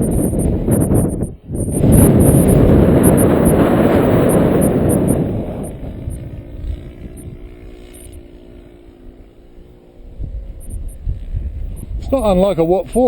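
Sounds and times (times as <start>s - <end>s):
model aircraft motor humming: 0.0s - 13.0s
wind buffeting microphone: 0.0s - 13.0s.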